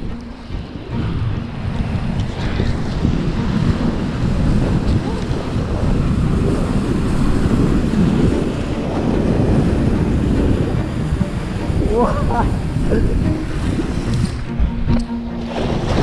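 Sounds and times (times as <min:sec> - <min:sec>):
breaking surf: 0:00.0 - 0:16.0
wind rumbling on microphone: 0:00.0 - 0:16.0.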